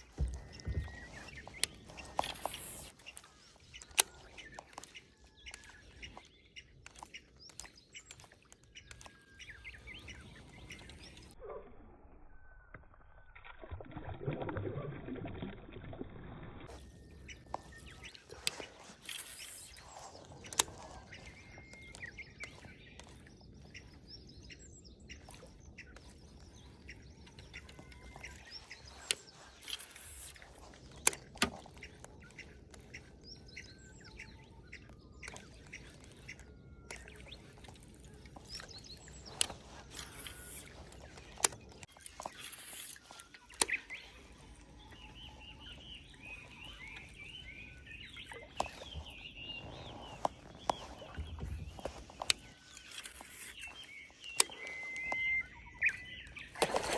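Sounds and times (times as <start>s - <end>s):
small birds chirping: 0.0s - 11.4s, 16.7s - 56.9s.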